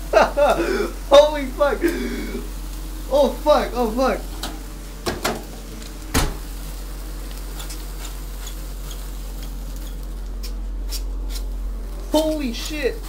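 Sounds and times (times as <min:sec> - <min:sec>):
sparklers fizzing and crackling: 0:00.0 - 0:13.0.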